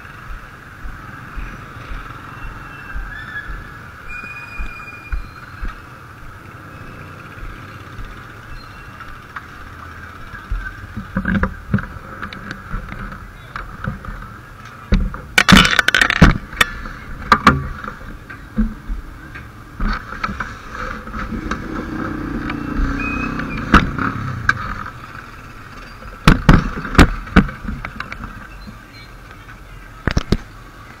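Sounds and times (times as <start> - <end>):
faint voices: 0.0 - 31.0.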